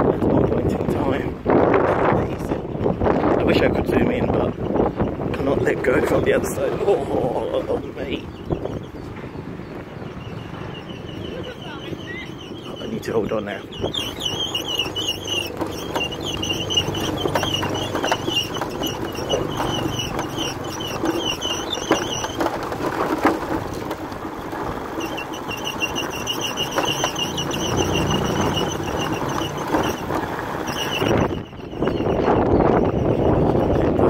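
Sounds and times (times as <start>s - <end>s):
knocks and rattles from bumps: 0.0s - 34.0s
motorbike on dirt road: 0.0s - 34.0s.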